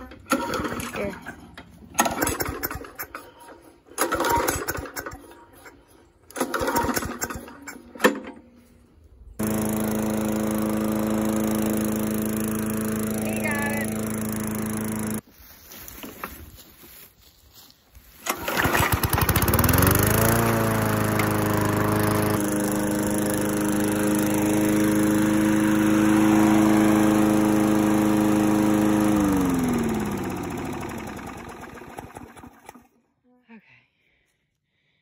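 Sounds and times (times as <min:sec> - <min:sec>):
push mower engine: 0:00.0 - 0:08.5, 0:09.4 - 0:15.2, 0:18.2 - 0:33.0.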